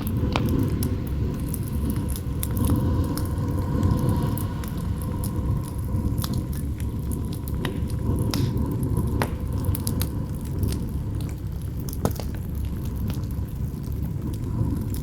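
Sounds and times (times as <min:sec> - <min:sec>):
burning wood popping: 0:00.0 - 0:15.0
campfire crackling: 0:00.0 - 0:15.0
low rumble of wind: 0:00.0 - 0:15.0.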